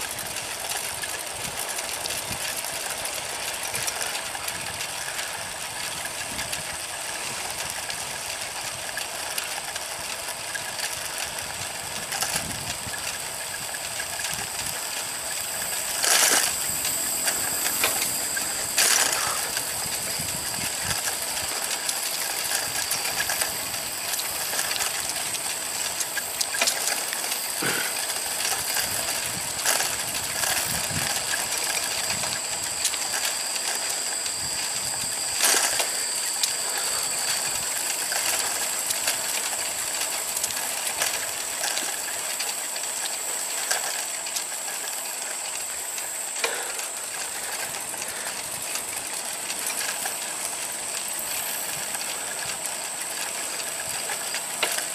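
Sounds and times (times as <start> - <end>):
bicycle chain whirring: 0.0 - 54.9
bicycle rolling on asphalt: 0.0 - 54.9.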